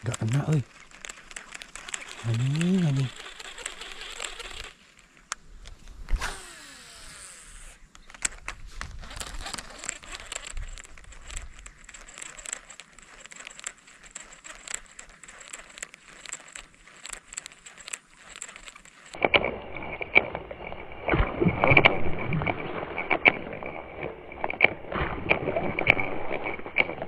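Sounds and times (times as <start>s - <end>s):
reel clicking and ticking: 0.0s - 4.8s, 7.9s - 27.0s
reel spool whirring: 0.4s - 4.8s, 6.1s - 8.4s, 9.0s - 27.0s.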